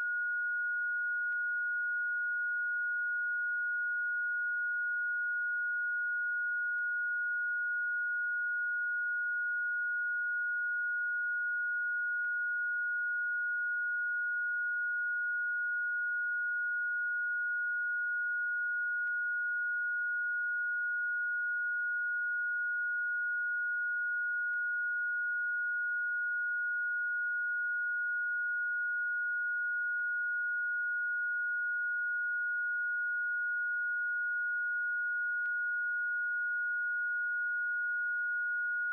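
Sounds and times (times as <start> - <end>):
high sine tone: 0.0 - 38.9.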